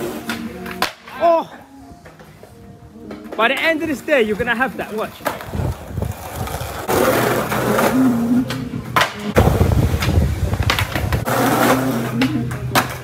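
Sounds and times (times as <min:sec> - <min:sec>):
skateboard clacking on concrete: 0:00.0 - 0:01.3, 0:02.0 - 0:04.1, 0:04.7 - 0:13.0
skateboard wheels rolling on concrete: 0:00.0 - 0:13.0.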